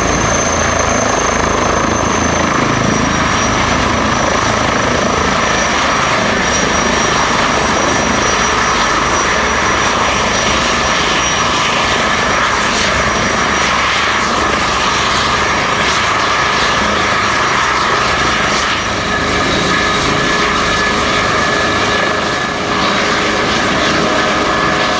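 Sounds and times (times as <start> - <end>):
helicopter rotor and engine noise: 0.0 - 24.9
high turbine whine: 0.0 - 24.9.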